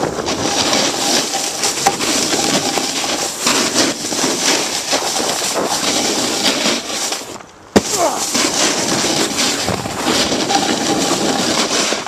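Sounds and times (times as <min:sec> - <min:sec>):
short crackling scrapes: 0:00.0 - 0:12.0
skis scraping over packed snow: 0:00.0 - 0:12.0.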